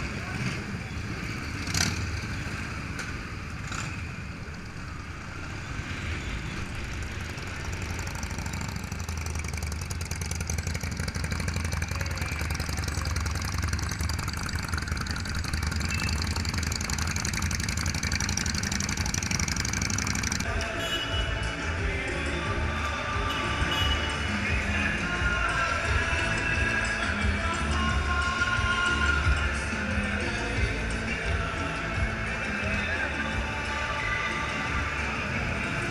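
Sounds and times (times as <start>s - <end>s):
motorcycle engines running: 0.0s - 35.9s.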